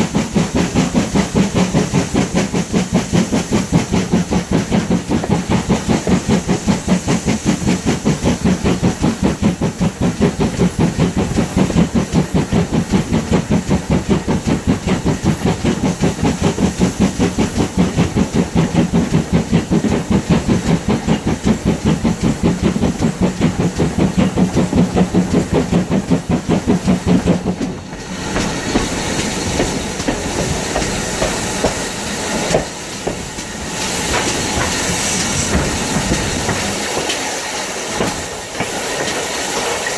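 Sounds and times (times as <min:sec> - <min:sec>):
steam engine chuffing: 0:00.0 - 0:39.9
steam hissing: 0:00.0 - 0:39.9
train wheels clattering on rails: 0:00.0 - 0:39.9.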